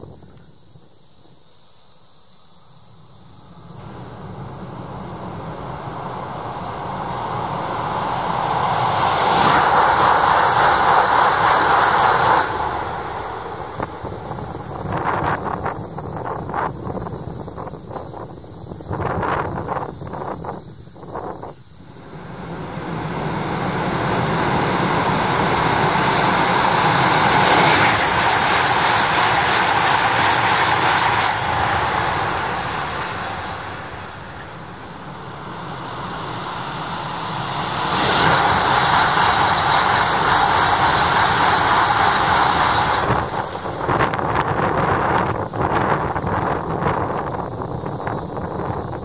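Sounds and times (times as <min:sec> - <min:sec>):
high-speed train rushing roar: 0:02.6 - 0:49.0.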